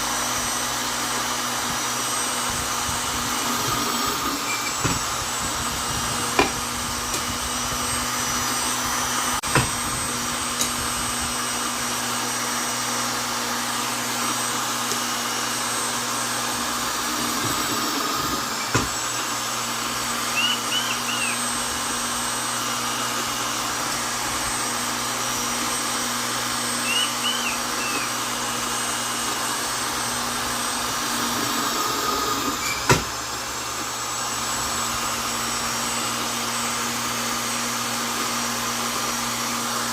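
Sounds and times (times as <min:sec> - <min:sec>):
electric drill running: 0:00.0 - 0:39.9.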